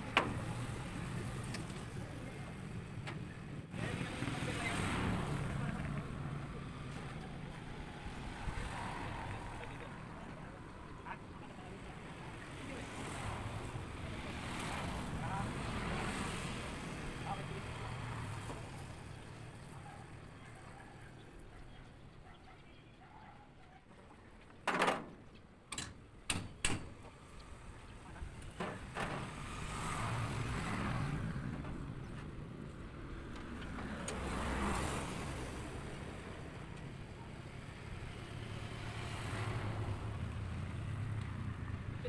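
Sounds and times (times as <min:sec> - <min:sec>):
road vehicles passing: 0:00.0 - 0:42.0.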